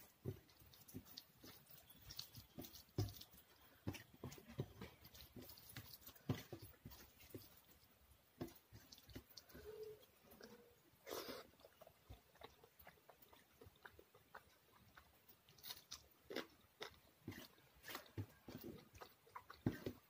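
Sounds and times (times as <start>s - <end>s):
fingers squishing food on steel plate: 0.0s - 20.0s.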